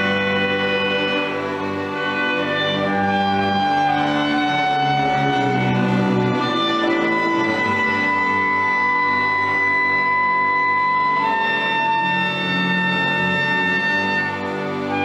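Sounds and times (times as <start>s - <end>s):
orchestra playing: 0.0s - 15.0s
violins and cellos bowing: 0.0s - 15.0s.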